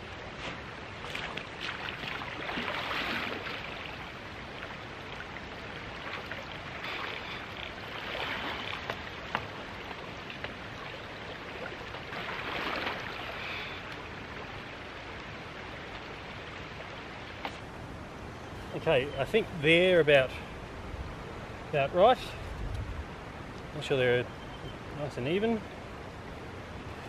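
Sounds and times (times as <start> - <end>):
river water running: 0.0 - 27.0.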